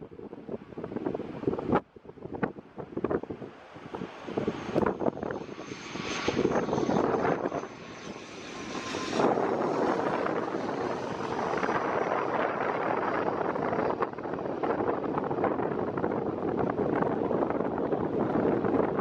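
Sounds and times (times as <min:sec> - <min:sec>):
turboprop engines high whine: 0:00.0 - 0:19.0
rushing drone: 0:03.3 - 0:19.0.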